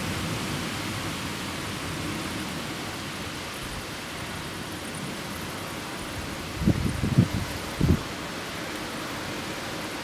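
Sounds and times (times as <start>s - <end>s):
heavy rain rushing: 0.0s - 10.0s.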